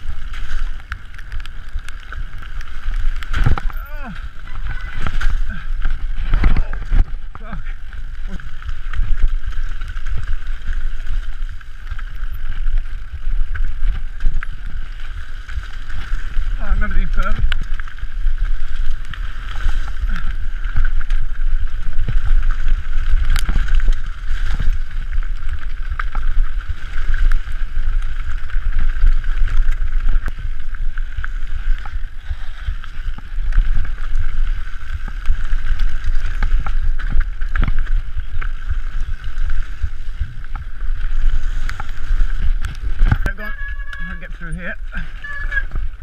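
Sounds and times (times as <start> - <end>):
bike rattling and knocking: 0.0 - 46.0
tyres on dirt trail: 0.0 - 46.0
wind on microphone: 0.0 - 46.0.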